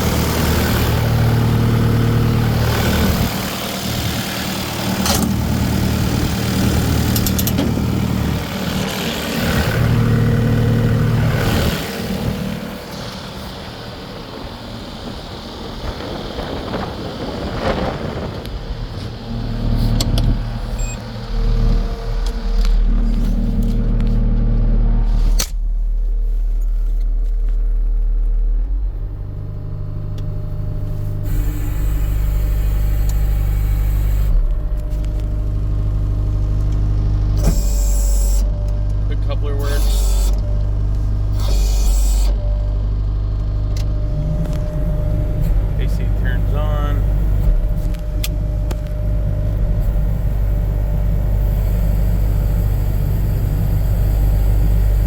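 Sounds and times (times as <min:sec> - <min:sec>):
skid steer diesel engine running: 0:00.0 - 0:55.0.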